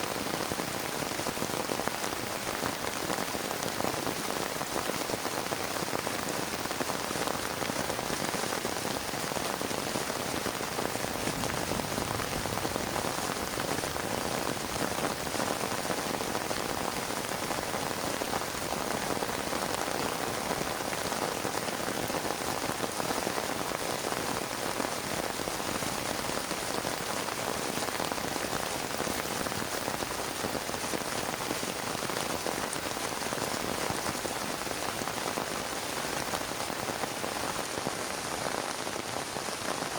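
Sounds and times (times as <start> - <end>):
heavy rain on plastic tarp: 0.0 - 39.9.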